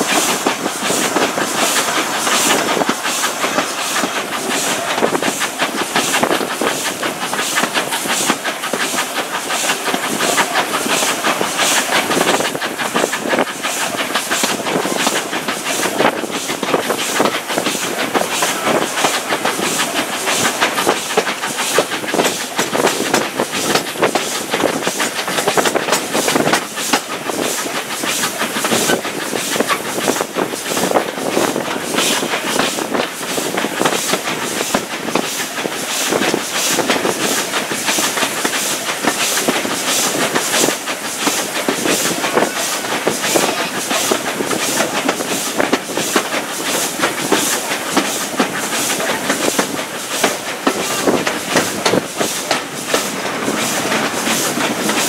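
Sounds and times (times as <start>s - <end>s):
steam engine chuffing beat: 0.0s - 55.0s
steam hissing: 0.0s - 55.0s
wheels clattering on rails: 0.0s - 55.0s.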